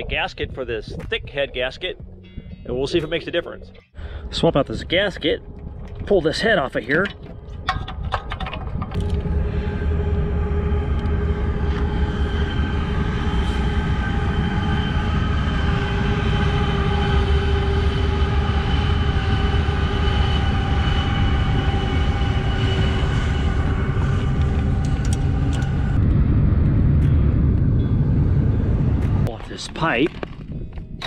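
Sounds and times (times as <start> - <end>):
droning locomotive tones: 0.0 - 31.0
train low rumble: 0.0 - 31.0.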